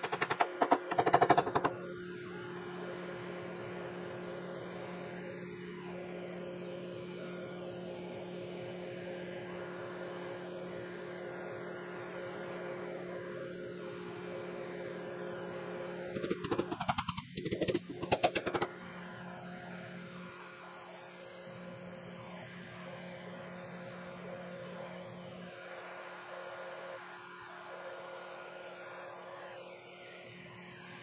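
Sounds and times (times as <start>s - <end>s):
electric motor hum: 0.0s - 31.0s.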